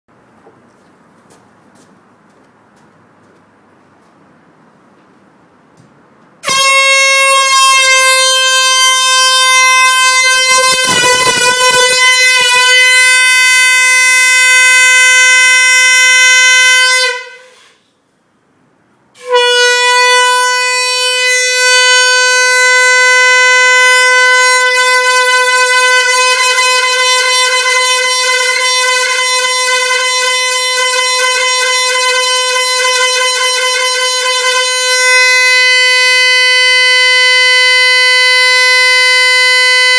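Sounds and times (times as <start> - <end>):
horn long steady honk: 6.4 - 17.8, 19.2 - 39.9.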